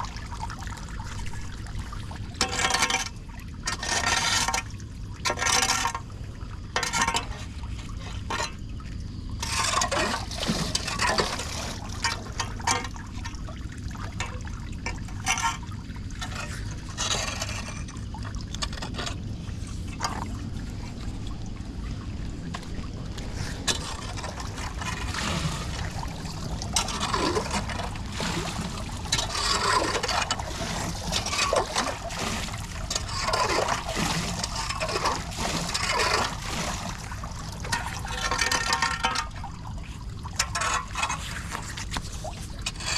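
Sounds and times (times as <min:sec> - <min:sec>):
floodwater gurgling into storm drain: 0:00.0 - 0:42.9.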